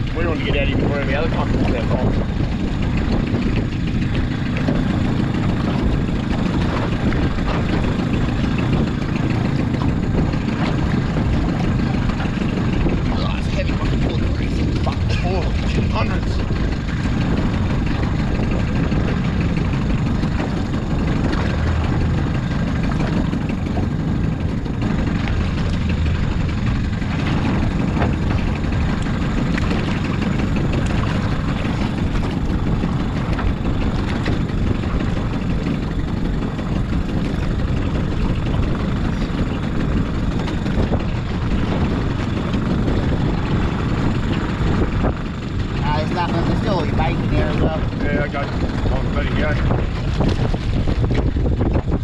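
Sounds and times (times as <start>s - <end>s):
outboard motor running: 0.0s - 52.0s
water noise: 0.0s - 52.0s
wind on microphone: 0.0s - 52.0s.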